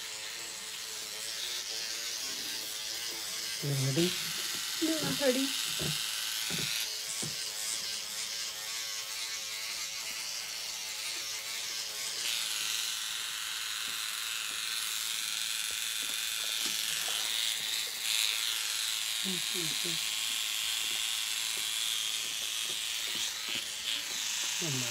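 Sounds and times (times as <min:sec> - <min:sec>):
microneedling pen buzzing: 0:00.0 - 0:24.9.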